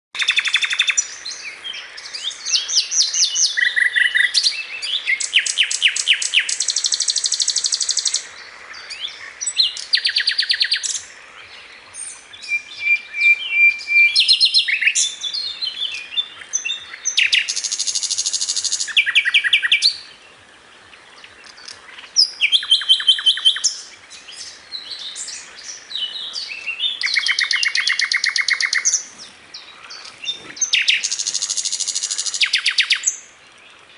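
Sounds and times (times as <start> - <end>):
birds singing: 0.2 - 33.9.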